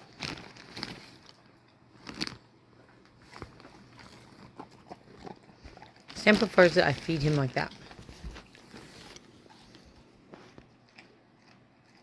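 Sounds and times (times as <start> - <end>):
dog chewing walnuts: 0.0 - 12.0.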